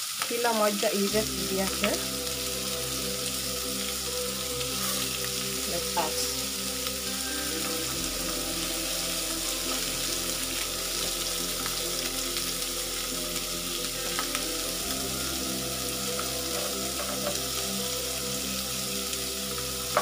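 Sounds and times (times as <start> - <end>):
meat sizzling in a grill pan: 0.0 - 20.0.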